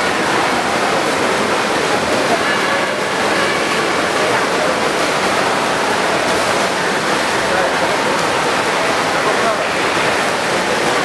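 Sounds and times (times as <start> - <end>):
swimmers splashing: 0.0 - 11.0.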